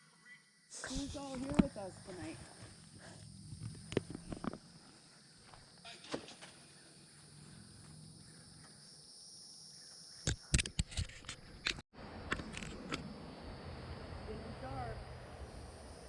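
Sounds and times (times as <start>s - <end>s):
night insects trilling: 0.0s - 10.5s, 12.4s - 16.0s.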